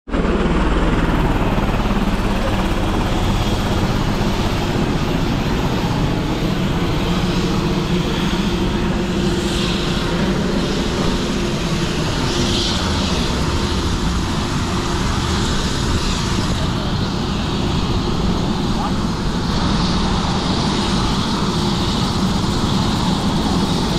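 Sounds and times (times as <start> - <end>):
helicopter engine and rotor drone: 0.1 - 23.9.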